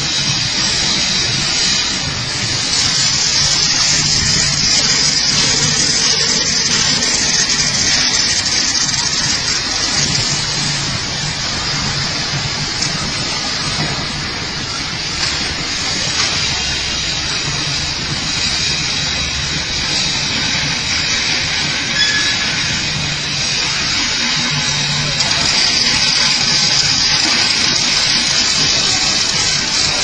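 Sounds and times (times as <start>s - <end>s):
welding arc crackling hiss: 0.0s - 30.0s.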